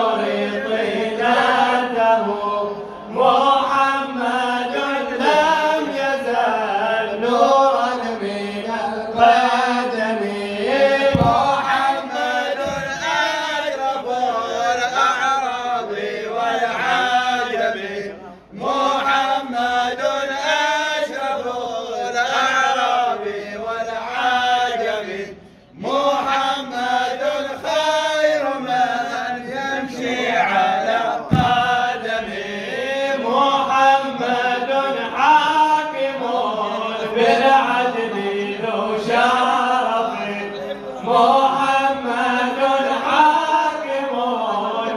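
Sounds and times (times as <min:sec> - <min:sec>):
man chanting a hymn unaccompanied: 0:00.0 - 0:44.9.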